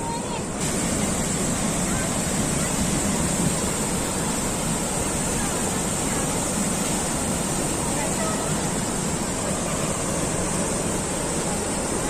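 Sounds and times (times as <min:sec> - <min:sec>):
waterfall water rushing: 0:00.0 - 0:12.0.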